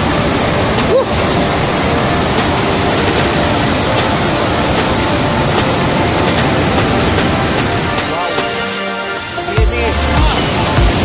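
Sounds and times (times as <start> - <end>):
waterfall rushing roar: 0.0 - 11.0.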